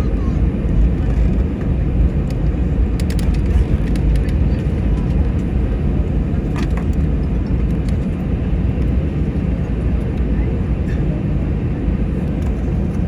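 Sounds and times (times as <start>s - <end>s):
aircraft cabin rumble: 0.0s - 13.0s.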